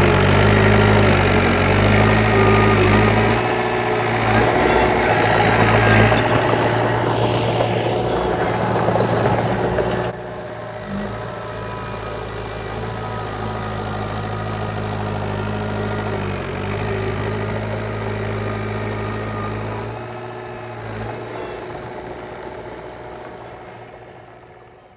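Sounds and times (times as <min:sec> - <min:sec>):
diesel engine idling: 0:00.0 - 0:24.9.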